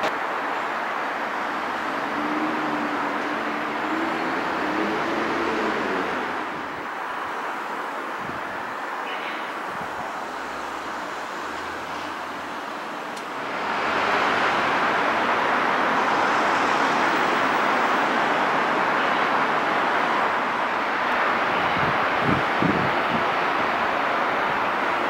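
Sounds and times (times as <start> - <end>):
traffic hiss: 0.0 - 25.0.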